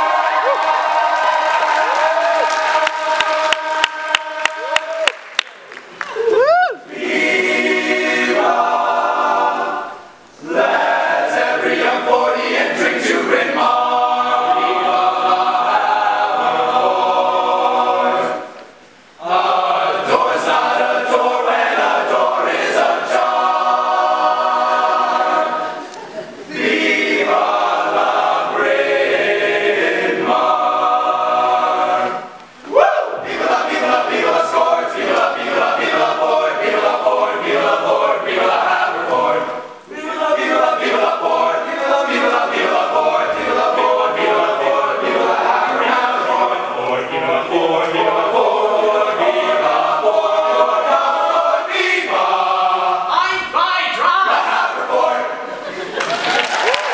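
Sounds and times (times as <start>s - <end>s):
male a cappella group singing: 2.5s - 4.7s, 6.9s - 55.7s.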